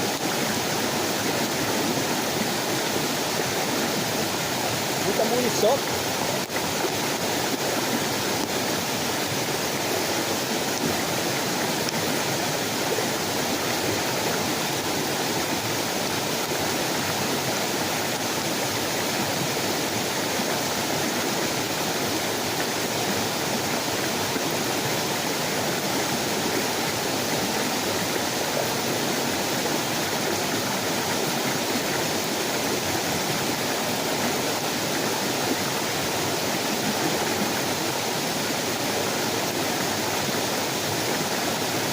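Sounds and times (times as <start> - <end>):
heavy rain falling: 0.0 - 37.3.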